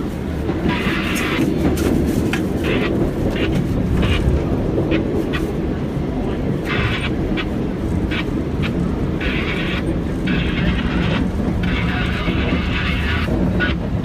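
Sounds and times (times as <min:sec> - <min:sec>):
subway car rumbling on rails: 0:00.0 - 0:14.0.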